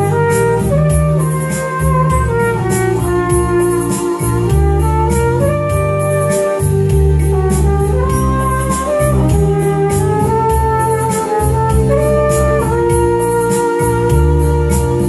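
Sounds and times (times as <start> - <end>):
bass: 0.0 - 15.0
flugelhorn slow melody: 0.0 - 15.0
keyboard organ chords: 0.0 - 15.0
light drum beat: 0.0 - 15.0.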